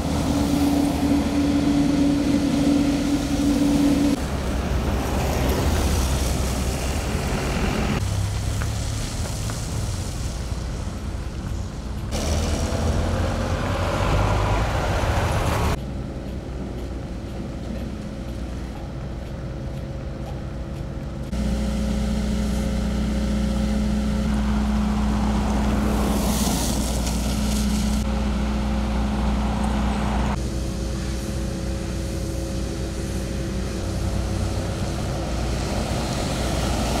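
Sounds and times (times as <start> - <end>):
car passing with tyre hiss: 0.0 - 15.8, 21.3 - 37.0
road roller diesel engine: 0.0 - 37.0
road traffic: 0.0 - 37.0.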